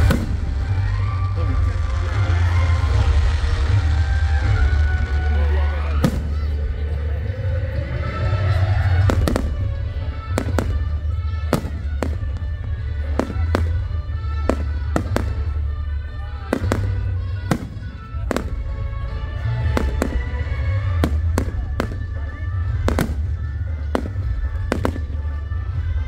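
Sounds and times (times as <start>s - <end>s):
fireworks bursting: 0.0s - 7.2s, 7.8s - 26.0s
music playing: 0.0s - 26.0s.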